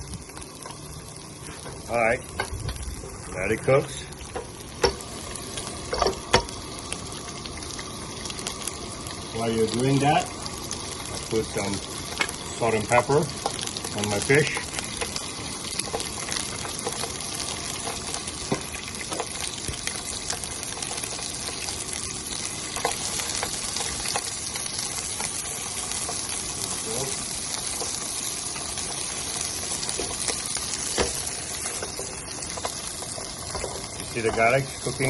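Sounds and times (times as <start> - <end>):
fish frying sizzle: 0.0 - 35.0.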